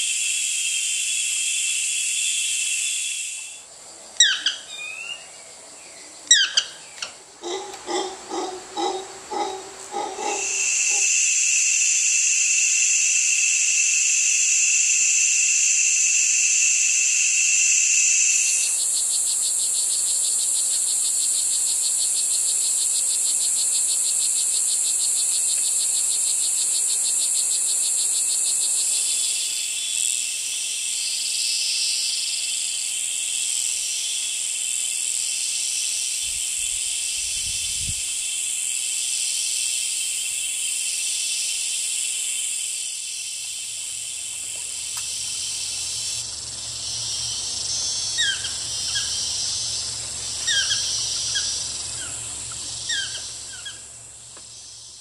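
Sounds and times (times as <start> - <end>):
insect chorus buzzing and trilling: 0.0 - 55.0
short insect chirps: 0.0 - 55.0.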